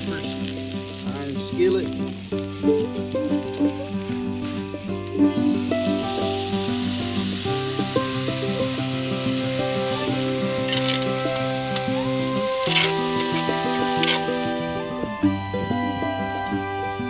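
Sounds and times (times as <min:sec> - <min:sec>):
music: 0:00.0 - 0:17.0
vegetables sizzling in skillet: 0:00.0 - 0:17.0.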